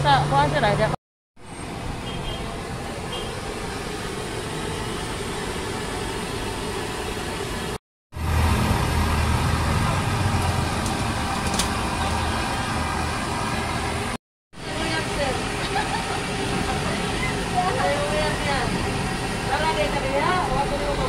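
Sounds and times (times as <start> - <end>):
street background: 0.0 - 21.0
low engine rumble: 1.6 - 21.0
vehicle engine running: 1.6 - 21.0.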